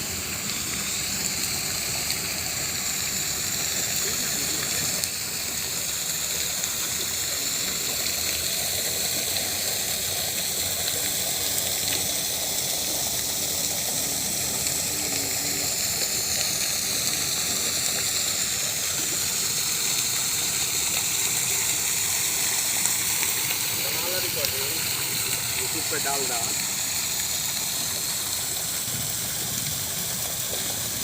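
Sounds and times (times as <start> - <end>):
fountain water splashing: 0.0 - 31.0.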